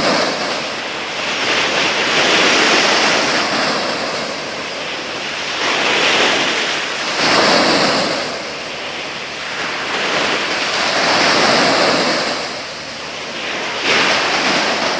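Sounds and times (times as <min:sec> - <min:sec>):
sea waves breaking on shore: 0:00.0 - 0:14.9.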